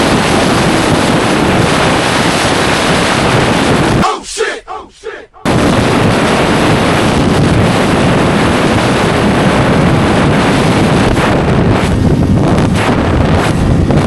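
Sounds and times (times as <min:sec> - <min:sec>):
wind buffeting microphone: 0:00.0 - 0:04.0, 0:05.4 - 0:14.0.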